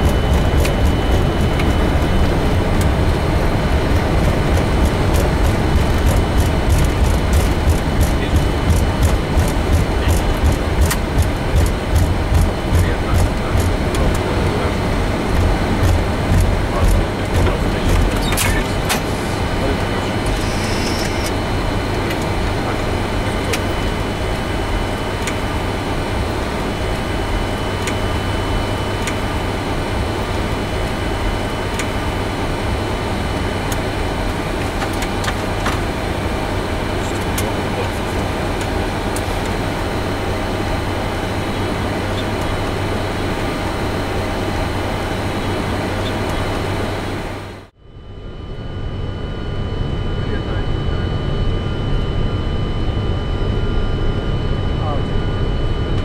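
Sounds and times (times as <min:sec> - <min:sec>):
aircraft cabin rush and hum: 0:00.0 - 0:56.0
steady whining tones: 0:00.0 - 0:56.0.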